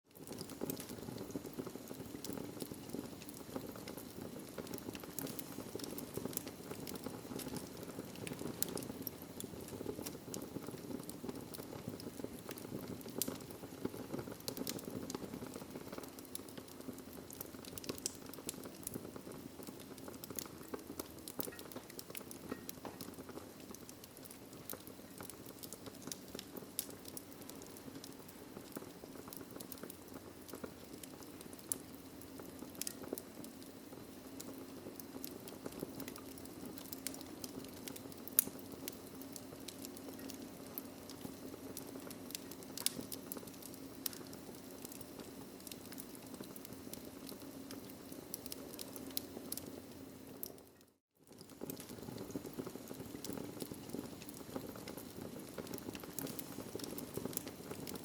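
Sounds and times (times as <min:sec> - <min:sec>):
fire crackling in fireplace: 0:00.1 - 0:58.0.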